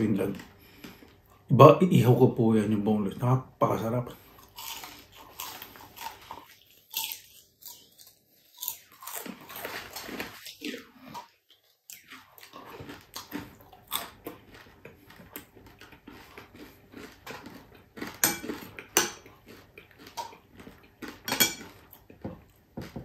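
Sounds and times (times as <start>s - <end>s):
chewing crispy food: 0.0s - 1.5s, 4.1s - 23.0s.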